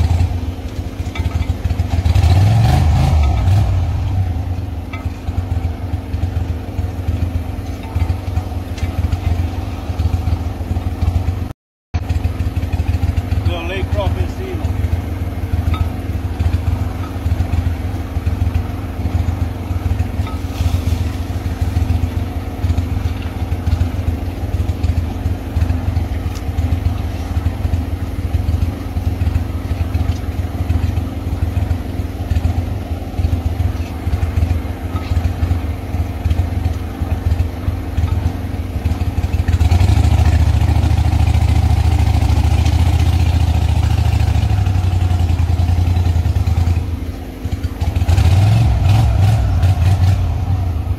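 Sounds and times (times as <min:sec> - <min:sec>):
boat motor running: 0:00.0 - 0:50.9.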